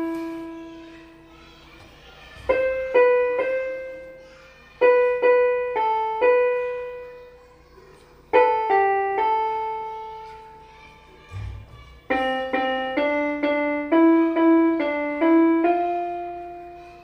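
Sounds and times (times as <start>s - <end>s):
electronic keyboard melody: 0.0s - 1.4s, 2.4s - 10.7s, 12.1s - 17.0s.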